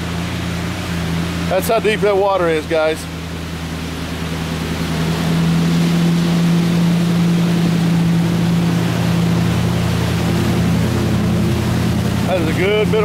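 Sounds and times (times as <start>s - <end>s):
truck engine drone: 0.0s - 13.0s
water rushing: 0.0s - 13.0s.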